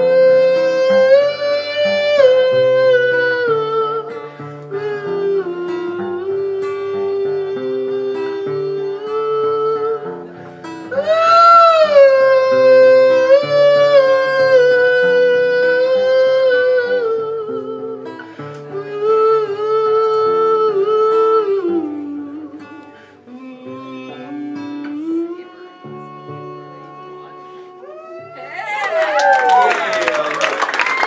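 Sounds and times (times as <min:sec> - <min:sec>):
man singing long notes: 0:00.0 - 0:28.3
picked acoustic guitar: 0:00.0 - 0:28.7.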